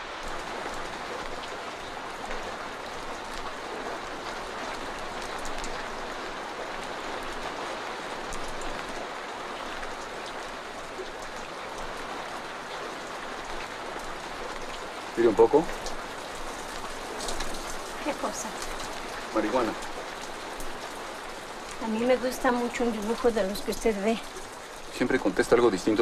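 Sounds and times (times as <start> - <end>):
raindrops ticking: 0.0 - 26.0
steady rain hiss: 0.0 - 26.0.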